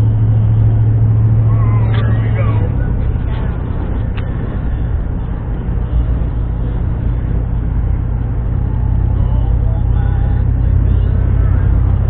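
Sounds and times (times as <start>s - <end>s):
car interior engine and tyre rumble: 0.0s - 12.0s.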